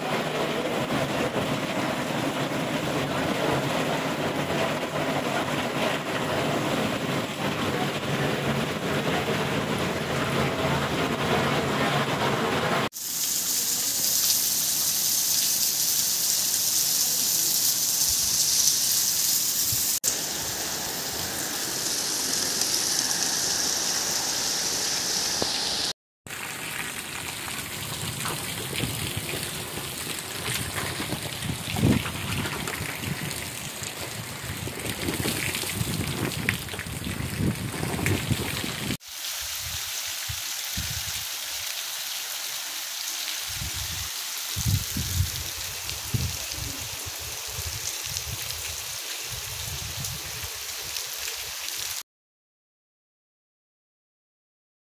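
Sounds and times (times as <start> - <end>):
heavy rain falling: 0.0 - 52.0
water streaming off roof: 0.0 - 52.0.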